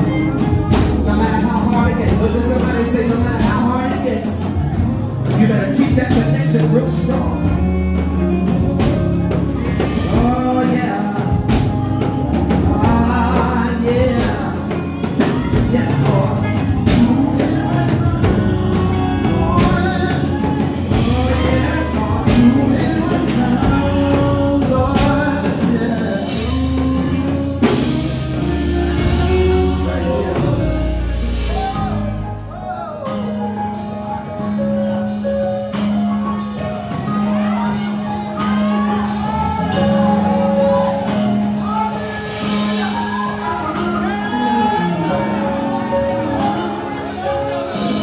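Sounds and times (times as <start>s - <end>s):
band with steady beat: 0.0s - 48.0s
gospel singing through microphones: 0.0s - 48.0s.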